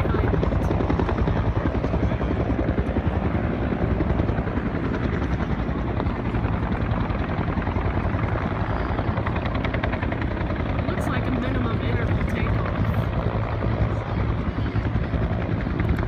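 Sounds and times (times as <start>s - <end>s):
helicopter rotor blades chopping: 0.0s - 16.0s.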